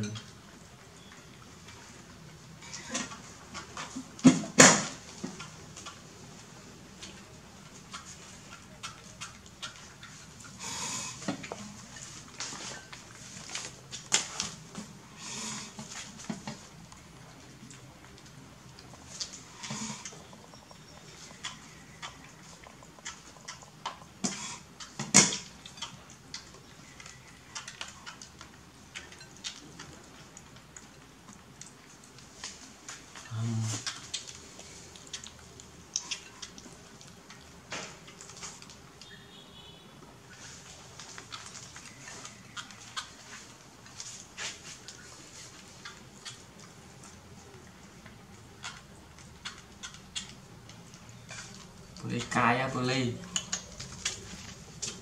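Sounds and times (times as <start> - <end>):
monkeys chewing food: 0.0 - 55.0.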